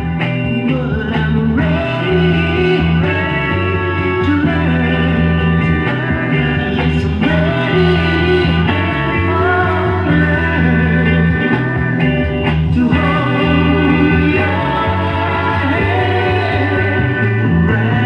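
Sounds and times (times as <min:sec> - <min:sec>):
bass line: 0:00.0 - 0:18.0
guitar: 0:00.0 - 0:18.0
person singing: 0:00.5 - 0:18.0.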